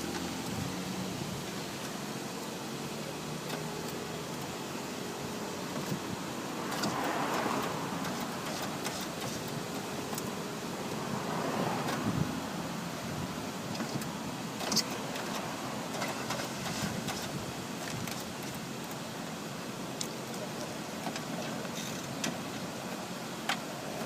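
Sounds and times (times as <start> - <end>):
outdoor background noise: 0.0 - 24.0
vehicles passing by: 0.0 - 24.0.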